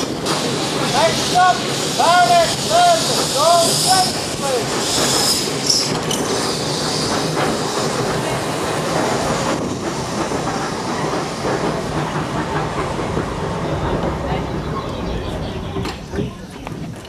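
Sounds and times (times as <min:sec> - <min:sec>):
tram wheels running on rails: 0:00.0 - 0:17.0.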